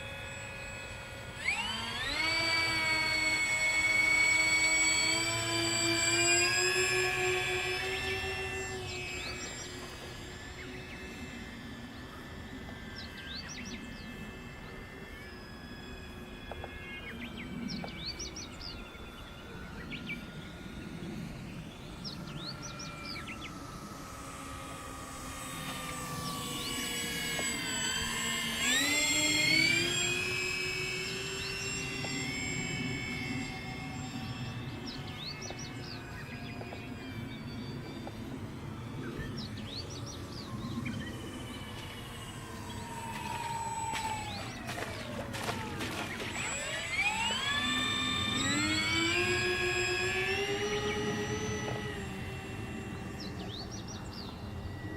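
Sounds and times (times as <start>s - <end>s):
model plane electric motors whining: 0.0s - 54.9s.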